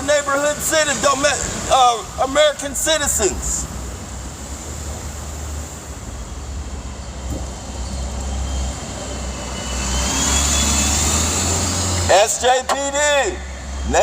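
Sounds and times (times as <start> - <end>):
traffic rumble: 0.0 - 14.0
vehicle approaching: 0.0 - 14.0.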